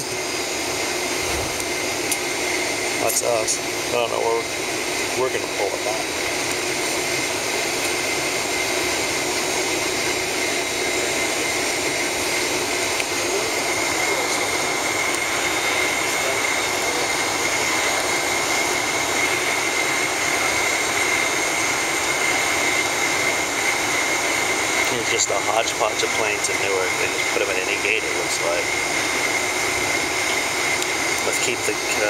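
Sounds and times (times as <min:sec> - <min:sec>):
high steady whine: 0:00.0 - 0:32.0
jet engine and cabin air noise: 0:00.0 - 0:32.0.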